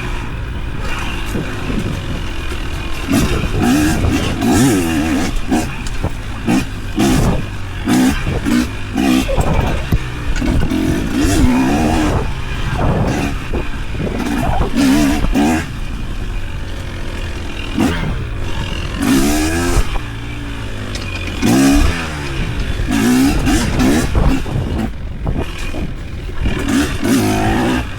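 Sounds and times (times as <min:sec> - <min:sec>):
engine revving: 0:00.0 - 0:27.9.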